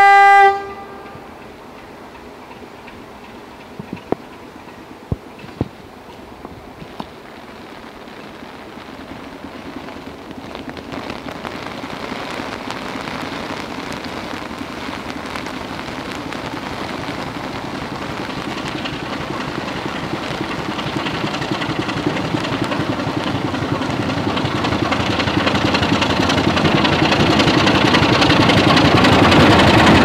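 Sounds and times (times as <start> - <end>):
diesel locomotive engine: 0.0 - 30.0.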